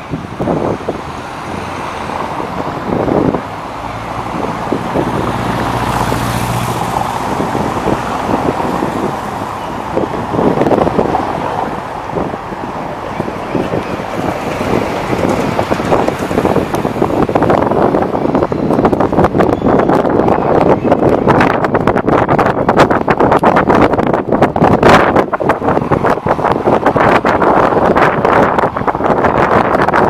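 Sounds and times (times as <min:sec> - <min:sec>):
cars passing: 0:00.0 - 0:30.0
road noise: 0:00.0 - 0:30.0
wind on microphone: 0:00.0 - 0:30.0.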